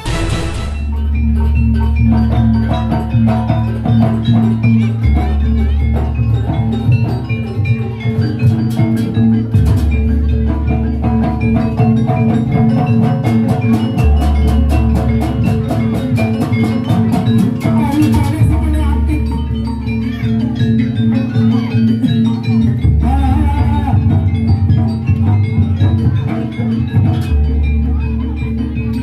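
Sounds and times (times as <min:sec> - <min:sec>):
drums: 0:00.0 - 0:29.0
metal keyed percussion notes: 0:00.0 - 0:29.0.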